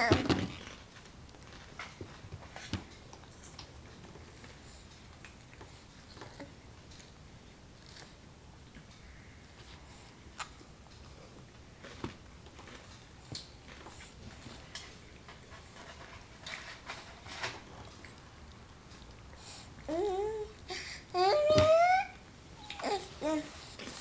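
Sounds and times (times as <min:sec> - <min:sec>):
baby gnawing and mouthing: 0:00.0 - 0:08.8, 0:09.6 - 0:22.0
faint low room hum: 0:00.0 - 0:24.0.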